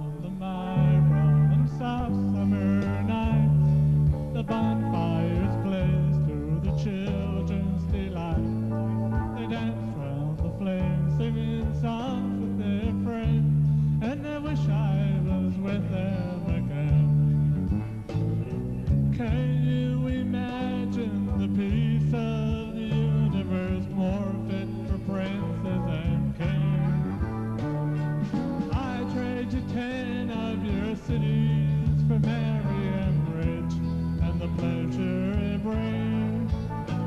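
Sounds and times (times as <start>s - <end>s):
bass line: 0.0s - 37.0s
drums: 0.0s - 37.0s
electric guitar lead melody: 0.0s - 37.0s.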